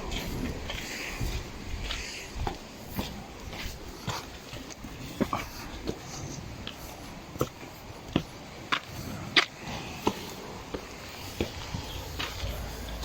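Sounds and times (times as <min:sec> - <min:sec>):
faint outdoor hiss: 0:00.0 - 0:13.0
footsteps scuffing: 0:00.0 - 0:13.0.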